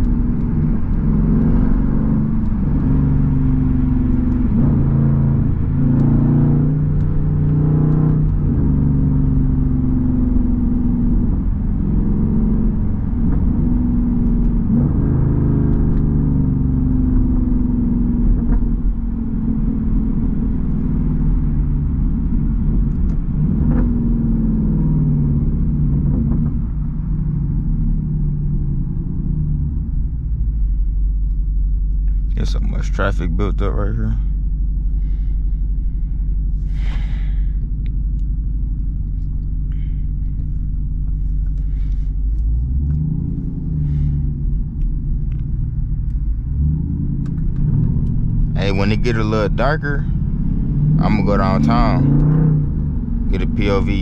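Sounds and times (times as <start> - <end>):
car exhaust from inside cabin: 0.0 - 54.0.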